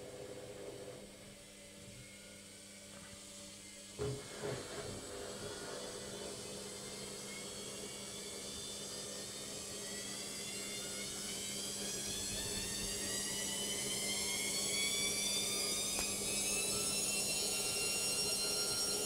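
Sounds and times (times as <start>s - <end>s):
washing machine motor whine: 0.0s - 19.0s.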